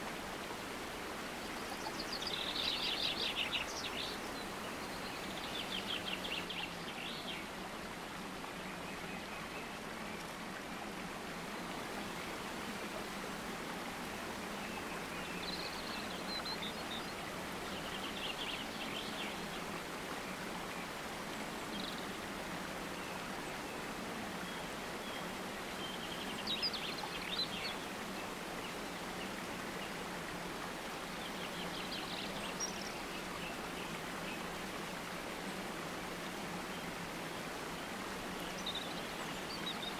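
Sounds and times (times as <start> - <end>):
rush of flowing water: 0.0 - 39.9.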